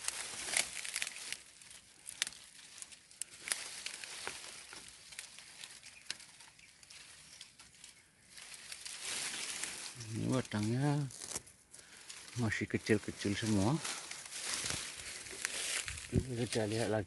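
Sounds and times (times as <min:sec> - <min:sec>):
twigs and leaves rustling: 0:00.0 - 0:17.0
twigs snapping: 0:00.0 - 0:17.0.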